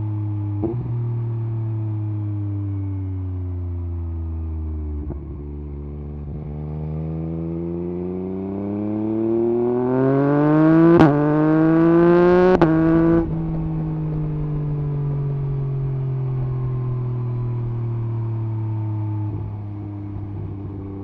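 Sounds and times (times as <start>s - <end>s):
motorcycle engine accelerating: 3.2s - 21.0s.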